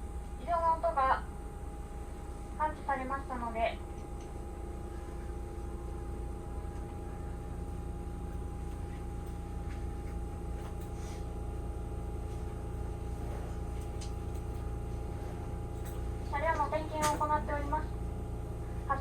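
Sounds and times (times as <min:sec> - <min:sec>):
train electrical hum: 0:00.0 - 0:19.0.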